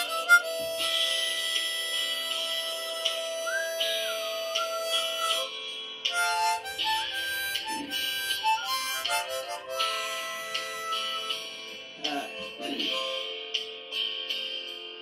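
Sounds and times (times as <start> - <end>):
harmonica playing: 0.0 - 13.6.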